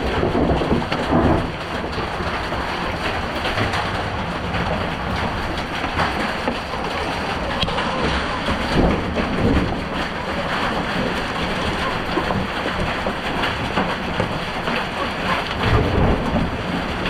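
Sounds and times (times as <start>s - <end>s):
heavy hail falling: 0.0s - 17.0s
low rumbles: 0.0s - 17.0s.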